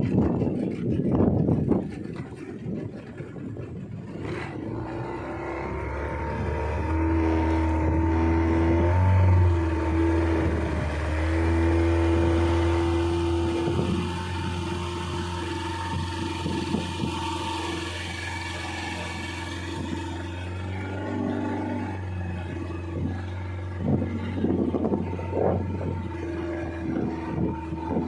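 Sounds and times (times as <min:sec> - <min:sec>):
boat motor running: 0:00.0 - 0:28.0
water noise: 0:00.0 - 0:28.0
wind: 0:00.0 - 0:28.0.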